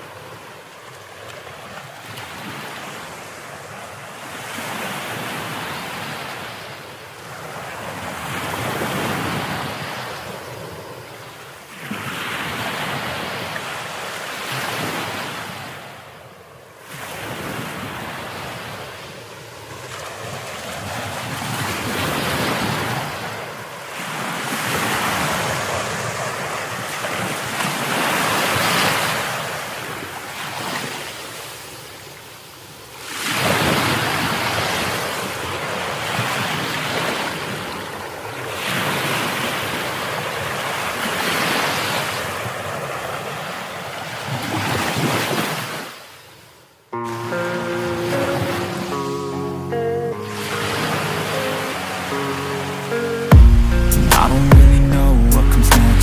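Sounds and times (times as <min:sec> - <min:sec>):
ocean waves washing: 0:00.0 - 0:46.0, 0:47.0 - 0:56.0.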